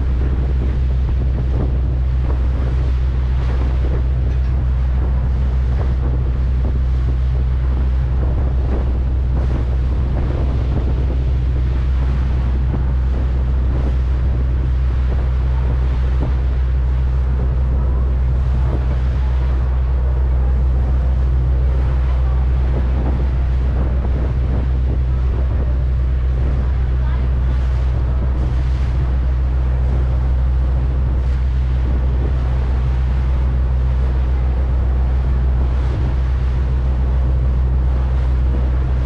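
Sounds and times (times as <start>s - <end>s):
boat engine drone: 0.0s - 39.0s
water wash: 0.0s - 39.0s
wind on microphone: 0.0s - 39.0s.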